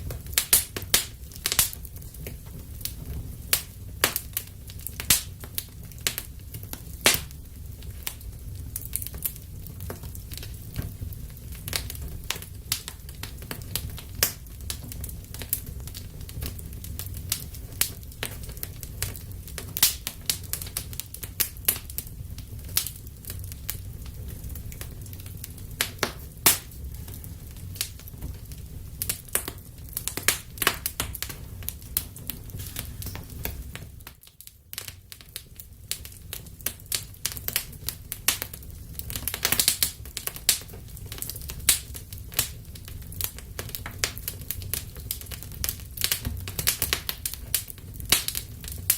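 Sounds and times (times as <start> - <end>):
fire crackling and popping: 0.0 - 48.9
flames rumbling: 0.0 - 48.9.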